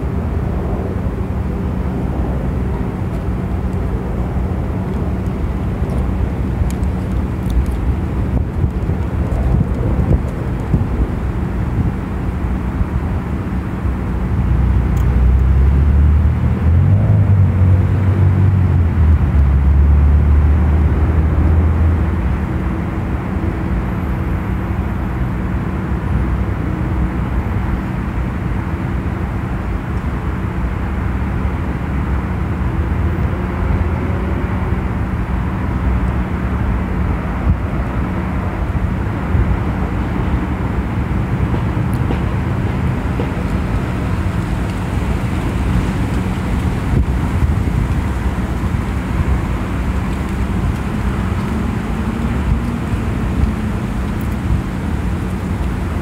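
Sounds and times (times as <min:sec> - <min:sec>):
low city rumble: 0:00.0 - 0:56.0.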